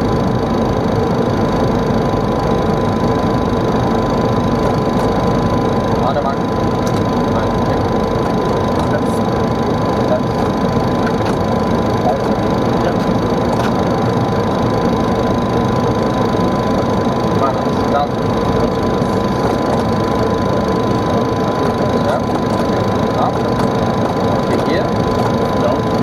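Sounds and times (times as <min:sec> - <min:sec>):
airplane airflow and engine noise: 0:00.0 - 0:26.0.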